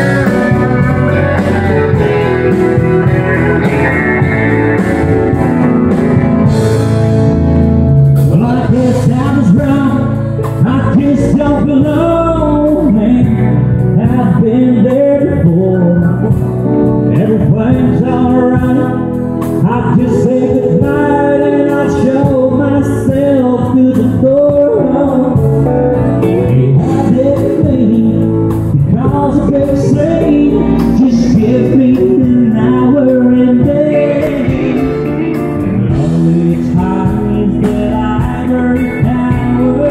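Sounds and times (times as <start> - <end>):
man singing lead: 0.0 - 6.6, 8.2 - 39.9
acoustic guitar: 0.0 - 39.9
drums: 0.0 - 39.9
electric guitar: 0.0 - 39.9.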